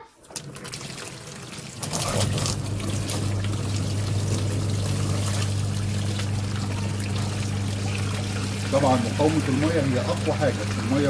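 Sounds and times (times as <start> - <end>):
washing machine motor humming: 0.0 - 11.0
water churning: 0.1 - 11.0
water pouring from a tap: 0.2 - 11.0.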